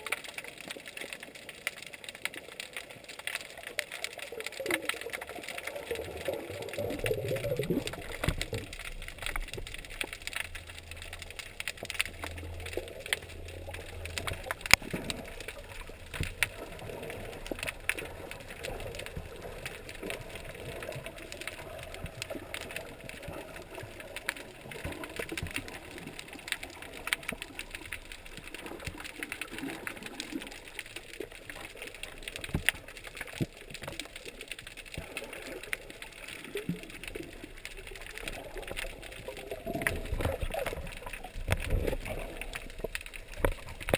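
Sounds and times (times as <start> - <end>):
underwater clicks crackling: 0.0 - 43.9.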